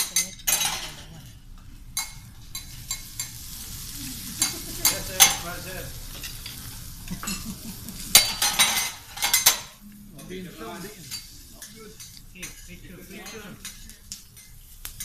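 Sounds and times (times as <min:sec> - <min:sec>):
noodles sizzling on a griddle: 0:00.0 - 0:15.0
metal spatula scraping hot plate: 0:02.0 - 0:15.0.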